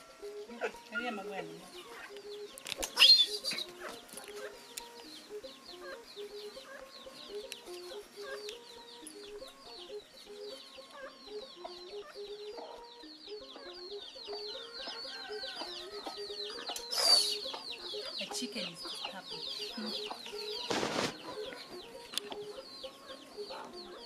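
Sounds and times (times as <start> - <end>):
chickens clucking: 0.0 - 24.0
fast high chirps: 1.8 - 15.1, 16.1 - 24.0.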